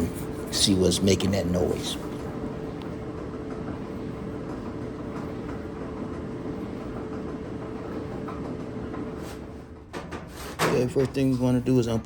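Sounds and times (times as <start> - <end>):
dryer drum rumbling: 0.0 - 12.0.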